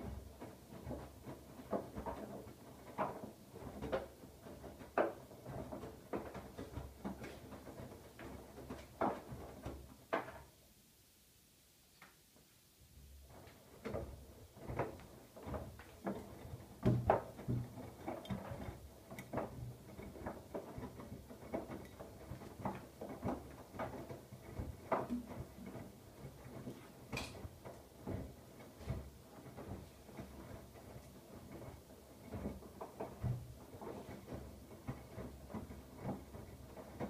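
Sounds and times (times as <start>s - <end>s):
laundry tumbling and sloshing: 0.0s - 10.4s, 12.9s - 37.0s.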